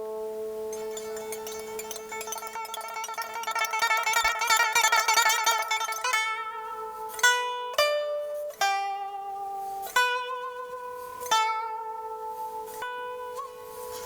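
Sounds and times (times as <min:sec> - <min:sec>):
plucked lute notes with vibrato: 0:00.0 - 0:14.0.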